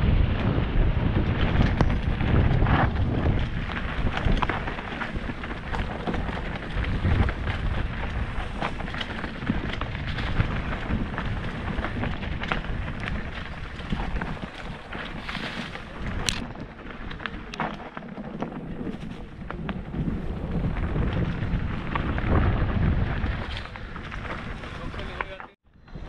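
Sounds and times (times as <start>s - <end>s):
bike rattling over bumps: 0.0s - 26.0s
bike tyres rolling over dirt: 0.0s - 26.0s
wind rumbling on microphone: 0.0s - 26.0s.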